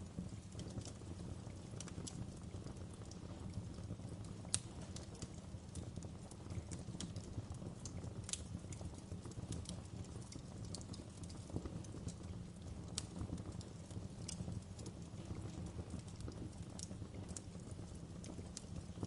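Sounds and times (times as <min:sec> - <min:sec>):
fire low rumble: 0:00.0 - 0:19.0
wood fire snapping and popping: 0:00.0 - 0:19.0.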